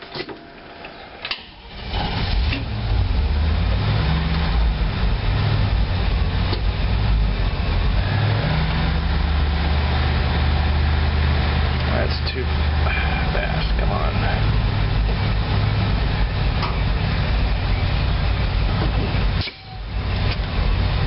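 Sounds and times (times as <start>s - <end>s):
bus engine running loudly: 1.8s - 21.0s.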